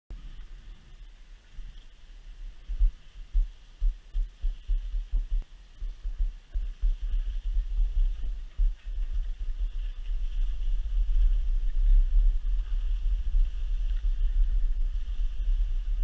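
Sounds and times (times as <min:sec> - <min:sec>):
faint hiss: 0:00.1 - 0:16.0
wind buffeting microphone: 0:00.1 - 0:16.0.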